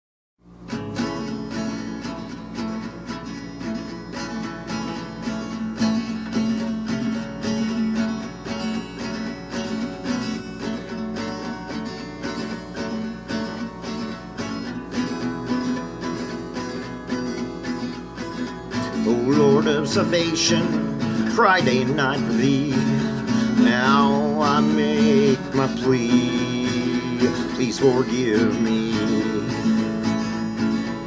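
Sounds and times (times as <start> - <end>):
acoustic guitar strumming: 0.4 - 31.0.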